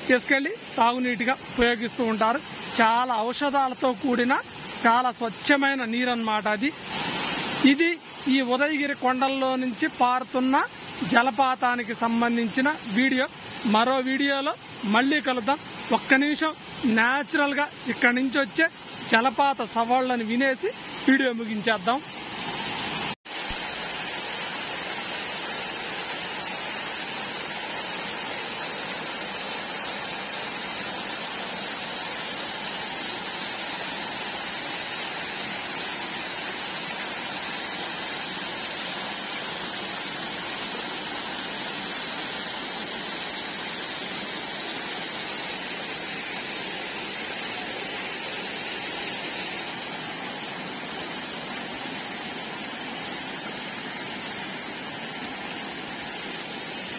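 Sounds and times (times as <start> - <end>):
waterfall splashing over boulders: 0.0 - 56.9.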